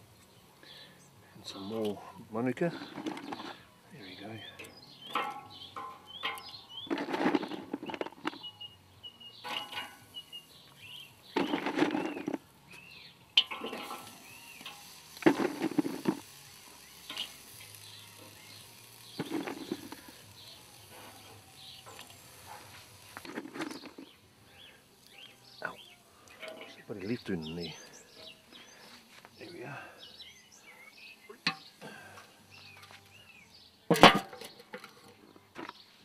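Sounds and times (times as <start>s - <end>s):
birds chirping: 0.0s - 36.0s
tongs and wood clattering on grill: 1.6s - 8.7s, 9.4s - 35.8s.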